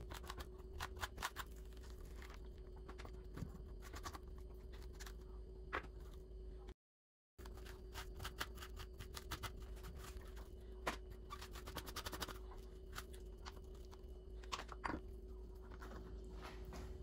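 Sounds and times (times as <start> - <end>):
faint steady hum: 0.0 - 6.8, 7.4 - 17.0.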